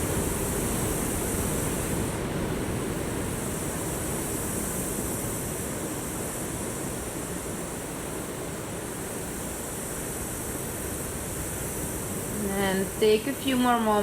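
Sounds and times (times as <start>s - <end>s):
ocean waves washing onto shore: 0.0s - 14.0s.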